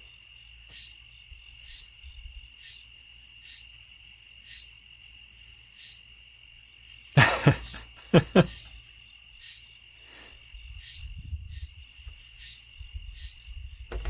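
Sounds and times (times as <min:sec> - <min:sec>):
insect trills: 0:00.0 - 0:14.0
insects high-pitched drone: 0:00.0 - 0:14.0.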